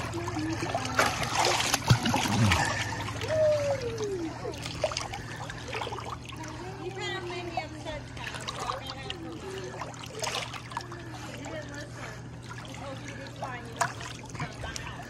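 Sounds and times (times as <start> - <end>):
pool water splashing and lapping: 0.0 - 15.0.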